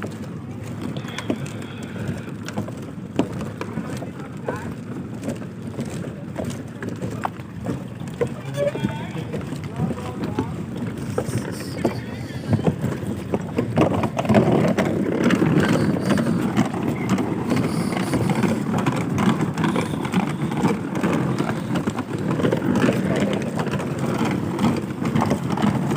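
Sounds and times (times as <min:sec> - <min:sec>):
rumbling vehicle noise: 0:00.0 - 0:25.9.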